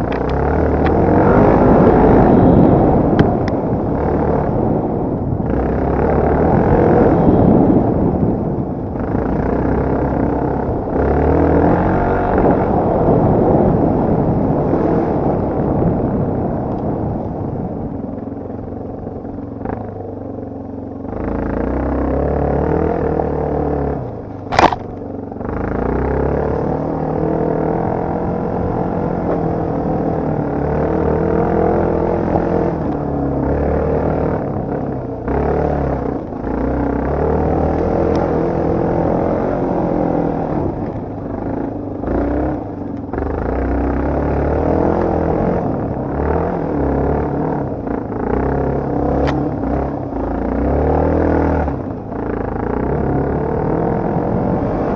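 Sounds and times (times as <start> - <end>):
dirt bike engine revving: 0.0 - 8.4, 9.0 - 15.9, 21.1 - 54.9.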